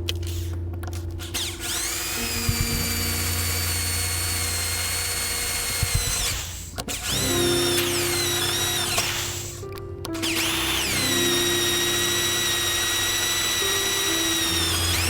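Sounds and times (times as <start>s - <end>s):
electric drill whining: 0.2s - 15.0s.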